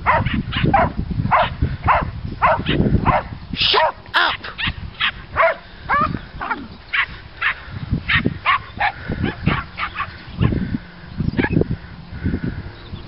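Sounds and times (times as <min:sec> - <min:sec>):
dogs barking: 0:00.0 - 0:10.6, 0:11.4 - 0:11.6.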